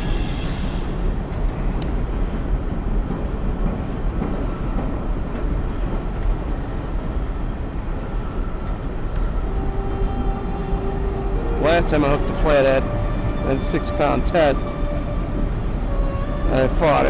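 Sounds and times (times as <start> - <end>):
train rumbling over bridge: 0.0 - 17.0.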